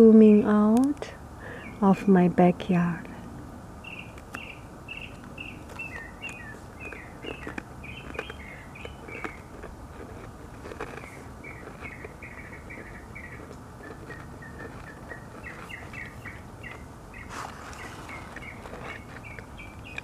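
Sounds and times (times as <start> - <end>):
songbird chirping: 0.0 - 3.2, 3.8 - 20.0.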